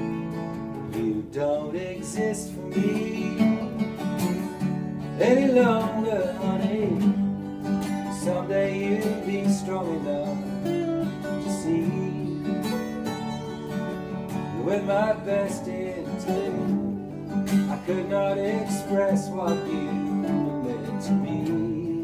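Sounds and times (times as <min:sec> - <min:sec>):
man singing: 0:00.0 - 0:04.4, 0:05.0 - 0:22.0
acoustic guitars playing: 0:00.0 - 0:22.0.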